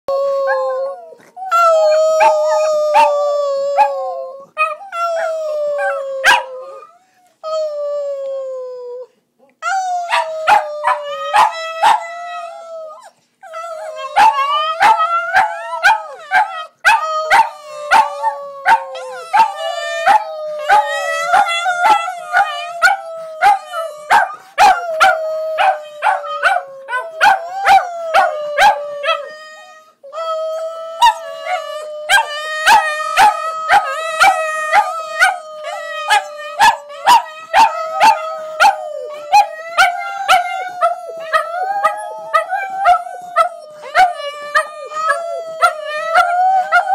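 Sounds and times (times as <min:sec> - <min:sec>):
dogs howling: 0:01.6 - 0:06.9, 0:10.0 - 0:29.8, 0:30.4 - 0:46.9.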